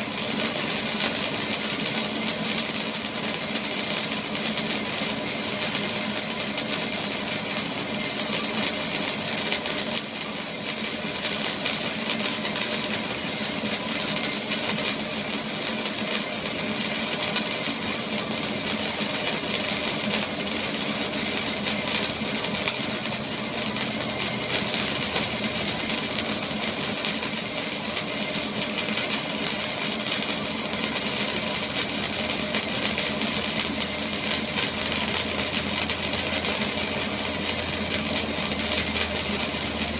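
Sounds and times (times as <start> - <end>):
machine humming with hiss: 0.0 - 39.9.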